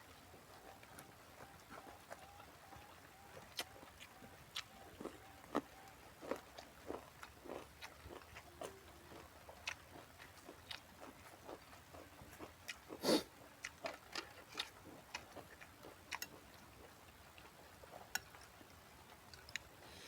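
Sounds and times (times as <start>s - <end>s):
chewing and crunching vegetables: 0.0s - 20.0s.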